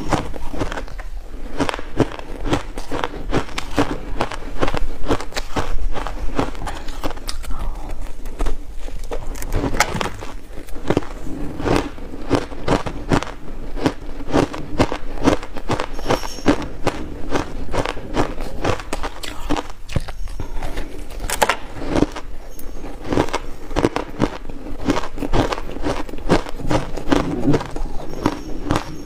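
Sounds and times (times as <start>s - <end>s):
chewing crunchy ice: 0.0s - 29.0s.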